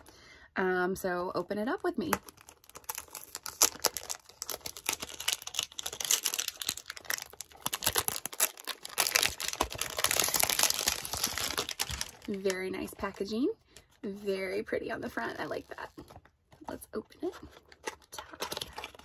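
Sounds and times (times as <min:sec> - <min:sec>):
card packaging crinkling: 0:02.0 - 0:14.0, 0:15.1 - 0:19.0.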